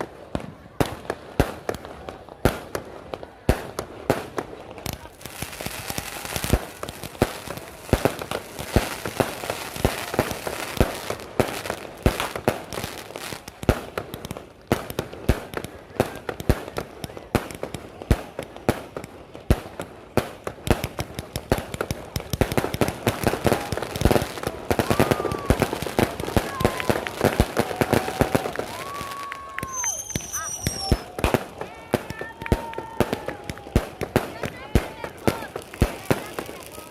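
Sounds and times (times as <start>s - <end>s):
firecrackers banging and popping: 0.0s - 36.9s.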